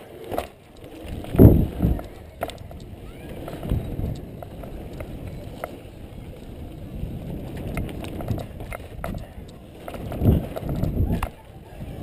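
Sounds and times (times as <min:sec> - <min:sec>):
bike clicks and rattles: 0:00.0 - 0:12.0
bike tyre rolling over dirt: 0:00.0 - 0:12.0
wind buffeting microphone: 0:00.8 - 0:12.0.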